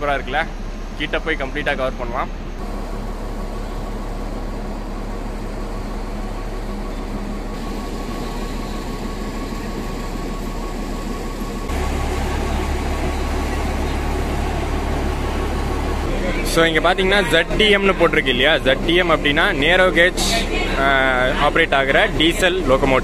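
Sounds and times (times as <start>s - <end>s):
diesel locomotive idling: 0.0s - 23.0s.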